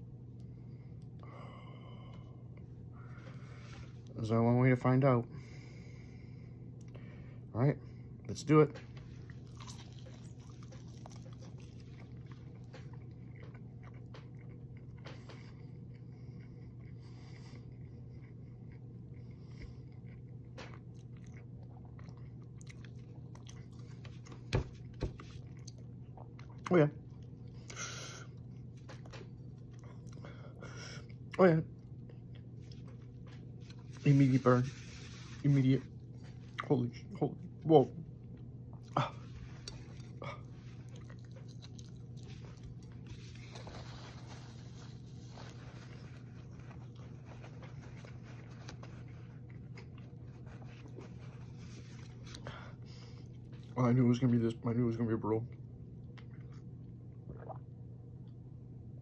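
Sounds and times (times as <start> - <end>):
steady low hum: 0.0 - 59.0
person chewing food: 8.8 - 53.8, 55.5 - 58.4.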